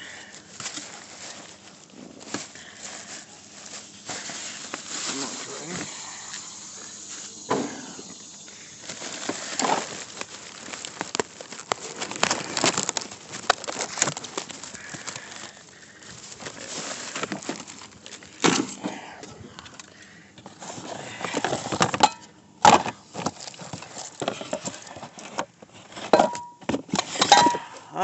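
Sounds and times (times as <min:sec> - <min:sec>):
items rustling and clinking in tote: 0:00.0 - 0:19.0, 0:19.6 - 0:27.8.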